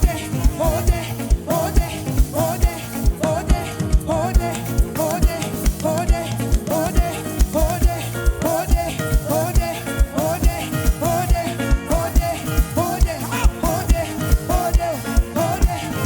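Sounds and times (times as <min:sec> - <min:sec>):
upbeat band instrumental: 0:00.0 - 0:16.0.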